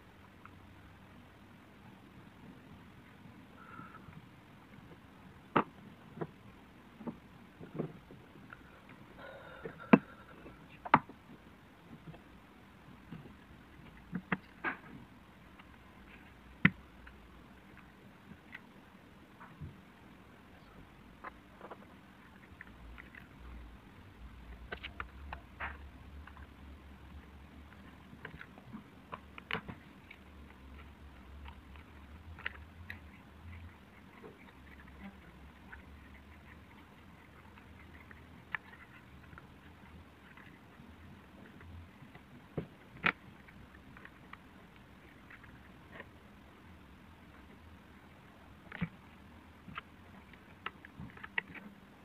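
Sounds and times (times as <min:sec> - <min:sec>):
faint low hum: 0:00.0 - 0:52.0.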